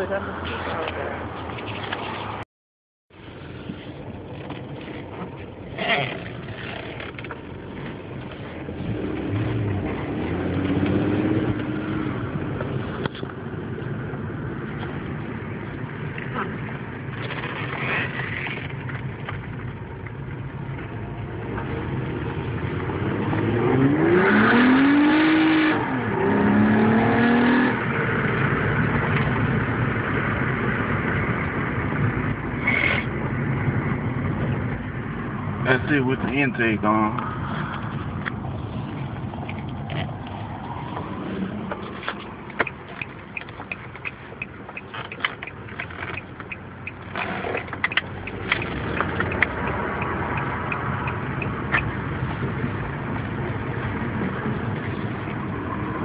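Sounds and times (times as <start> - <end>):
car engine accelerating: 4.0 - 56.0.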